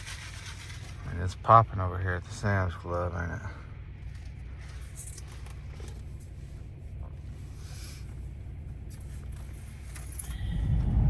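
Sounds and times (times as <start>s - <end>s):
pickup engine rumble: 0.0s - 11.0s.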